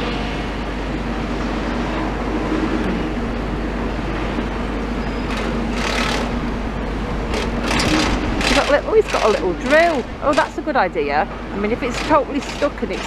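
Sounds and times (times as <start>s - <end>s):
engine rumble: 0.0s - 13.0s
road noise: 0.0s - 13.0s.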